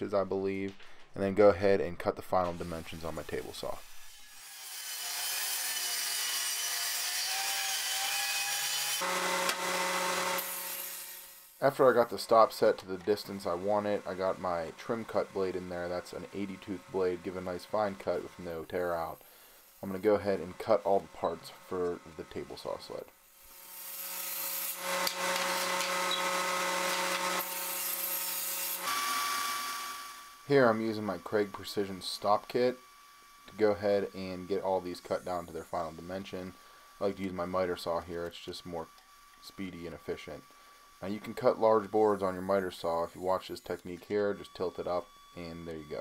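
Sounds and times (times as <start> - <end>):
circular saw cutting plywood: 2.4 - 46.0
table saw motor humming: 2.5 - 46.0.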